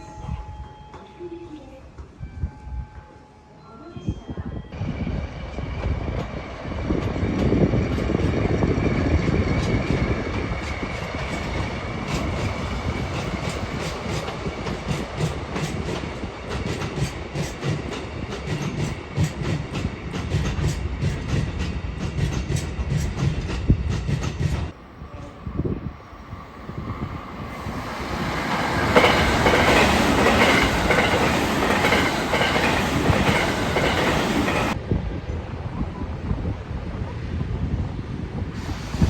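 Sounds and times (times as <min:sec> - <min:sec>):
train rumble: 0:04.3 - 0:39.0.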